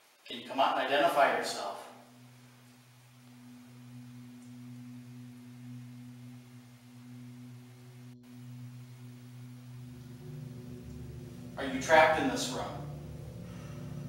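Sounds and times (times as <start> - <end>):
low hum: 1.2 - 14.0.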